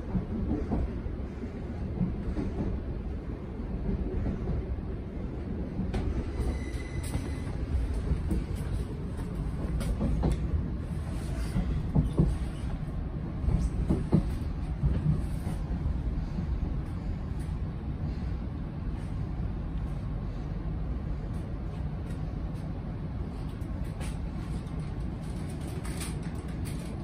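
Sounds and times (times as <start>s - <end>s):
train rumble and clatter: 0.0s - 27.0s.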